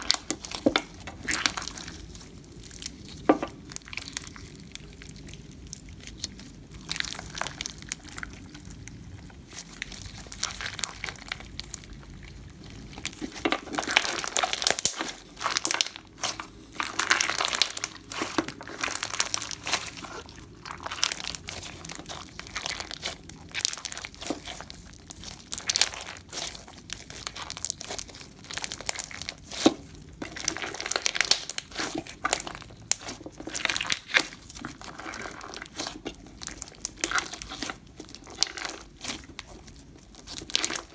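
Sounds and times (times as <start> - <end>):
slime squished by hand crackling: 0.0 - 40.9.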